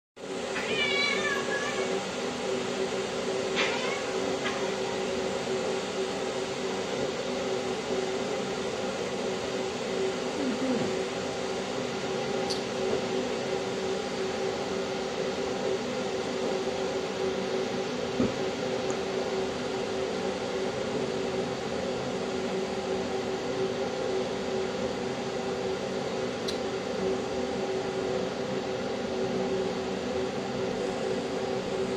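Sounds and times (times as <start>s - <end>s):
steady mechanical hum: 0.2s - 31.9s.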